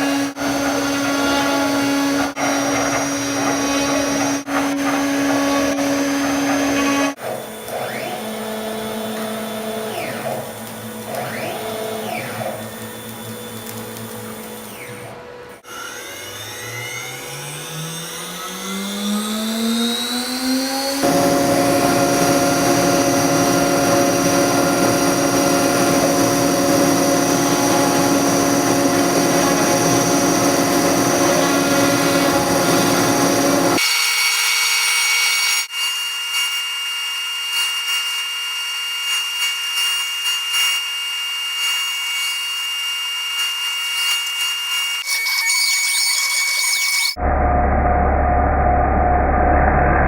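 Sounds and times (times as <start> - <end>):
router spindle whine: 0.0 - 47.2.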